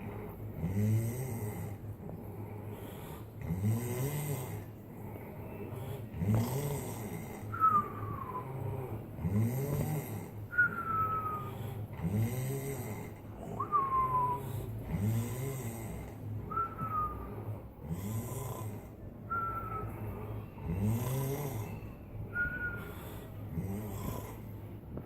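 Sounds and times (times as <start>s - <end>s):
person snoring deeply: 0.1s - 1.8s, 2.7s - 4.8s, 5.7s - 24.6s.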